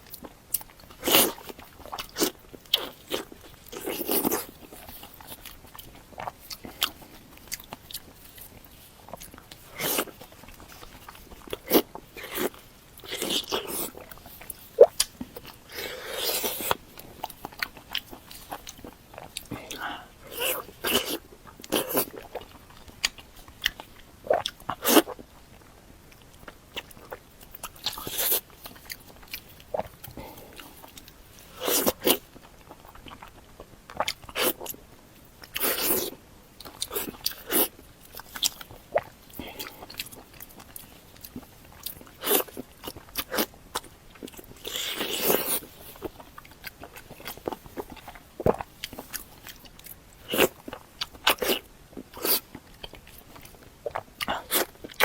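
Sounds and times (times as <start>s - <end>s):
close-miked biting and chewing: 0.0s - 55.0s.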